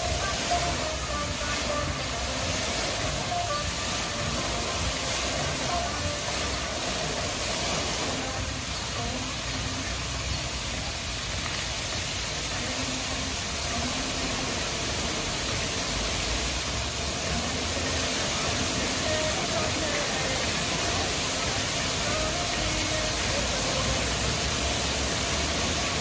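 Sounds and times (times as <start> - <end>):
fountain water splashing: 0.0 - 26.0.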